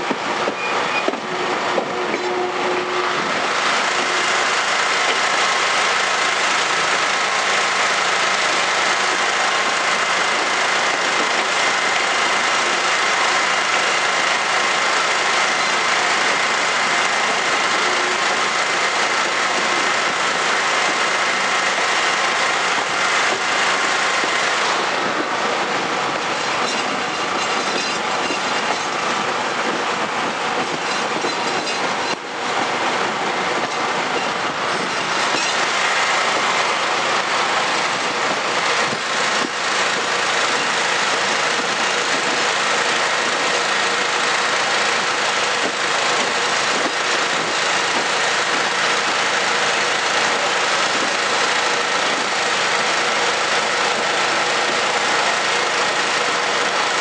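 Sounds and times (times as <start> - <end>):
train wheel and rail noise: 0.0 - 57.0
high steady whine: 0.2 - 57.0.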